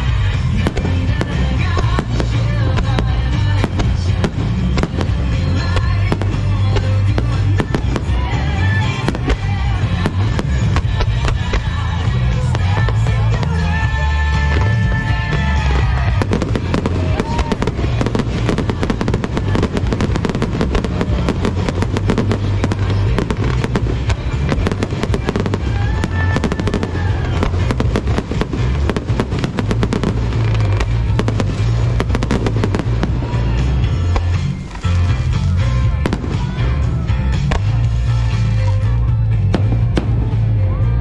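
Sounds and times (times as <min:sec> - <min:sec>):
fireworks bangs and crackles: 0:00.0 - 0:41.0
loud music with heavy bass: 0:00.0 - 0:41.0.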